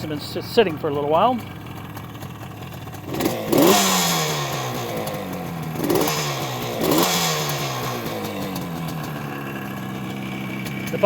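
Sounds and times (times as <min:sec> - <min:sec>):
two-stroke engine throttle blips: 0:00.0 - 0:11.0.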